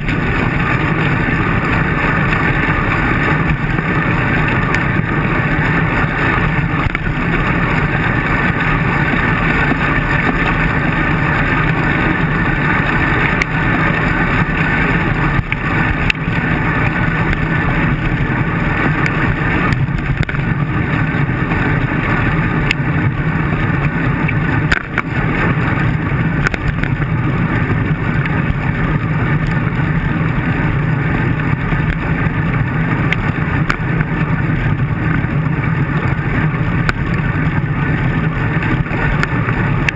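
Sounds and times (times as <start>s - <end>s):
road rumble: 0.0s - 39.9s
wind rush: 0.0s - 39.9s.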